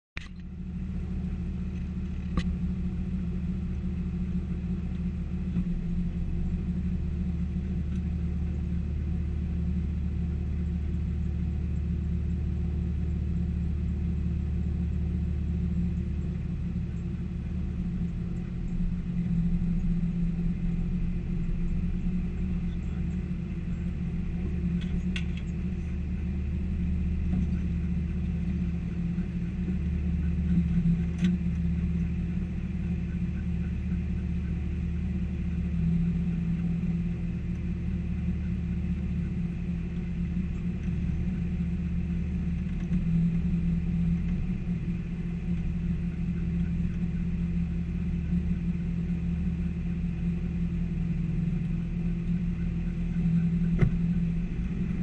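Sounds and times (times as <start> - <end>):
car engine idling low rumble: 0.2 - 55.0.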